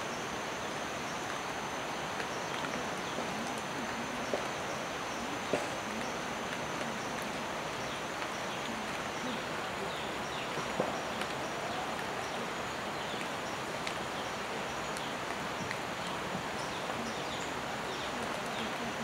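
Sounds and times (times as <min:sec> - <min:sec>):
rain on foliage: 0:00.0 - 0:19.0.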